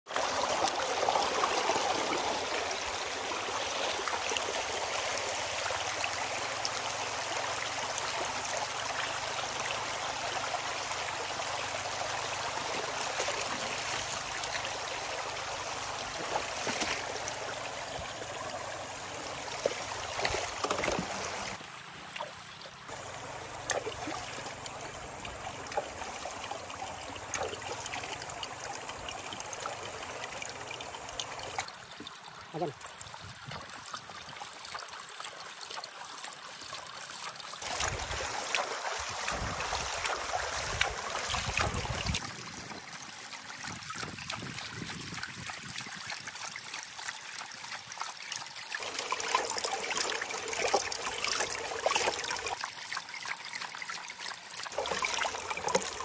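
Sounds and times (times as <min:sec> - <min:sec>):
river water sloshing and rushing: 0:00.1 - 0:56.0
water splashes: 0:00.1 - 0:56.0.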